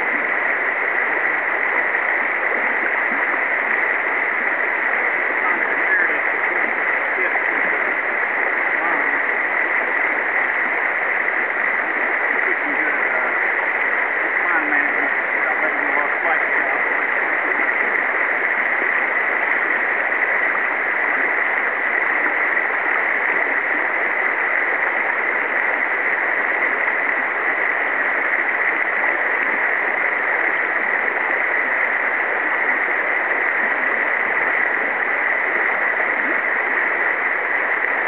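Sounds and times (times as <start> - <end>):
river water rushing over riffle: 0.0 - 38.0.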